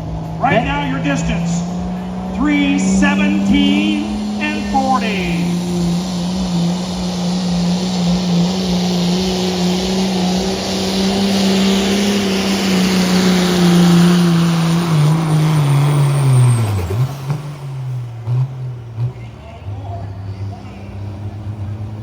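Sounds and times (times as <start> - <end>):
diesel truck engine at high revs: 0.0 - 22.0
turbo whine: 0.0 - 22.0.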